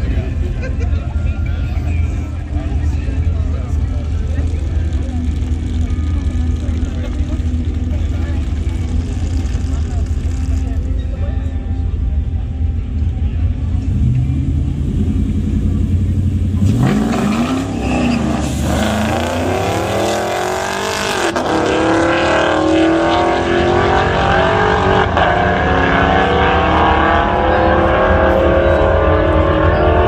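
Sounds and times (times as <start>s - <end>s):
vehicle engine accelerating hard: 0.0s - 30.0s.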